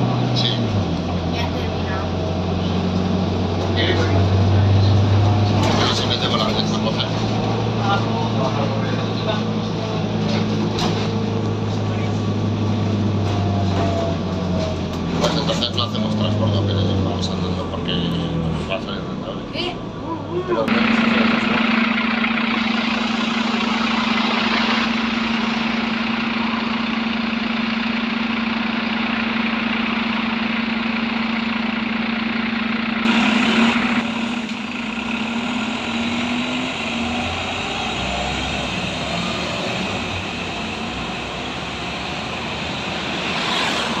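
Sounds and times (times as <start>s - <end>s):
bus engine idling: 0.0s - 44.0s.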